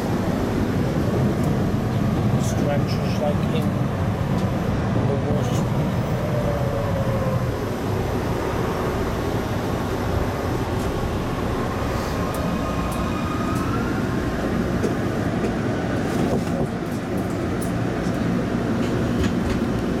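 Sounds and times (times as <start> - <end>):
subway car wheels rumbling on rail: 0.0 - 20.0.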